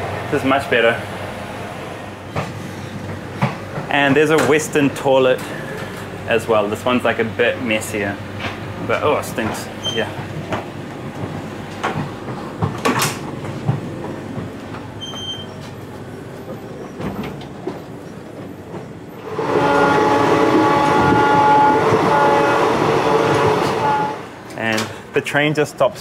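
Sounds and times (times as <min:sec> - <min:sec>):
train wheels clattering on rails: 0:02.2 - 0:06.8, 0:07.9 - 0:25.1.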